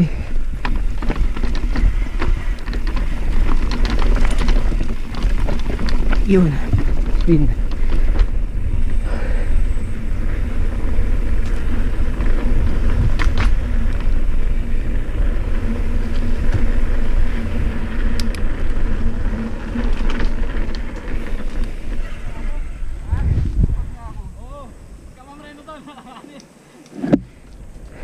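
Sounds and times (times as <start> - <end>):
bike tyres rumbling on dirt: 0.0 - 26.1, 27.0 - 28.0
wind rushing past camera: 0.0 - 28.0.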